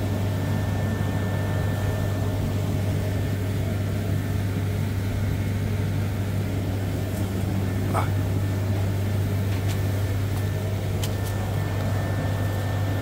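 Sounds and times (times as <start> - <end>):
mill machinery humming and rumbling: 0.0 - 13.0.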